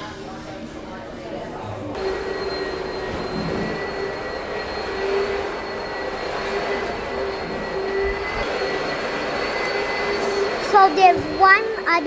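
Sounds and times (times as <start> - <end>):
electric fans whirring: 0.0 - 12.0
faint high whine: 2.0 - 12.0.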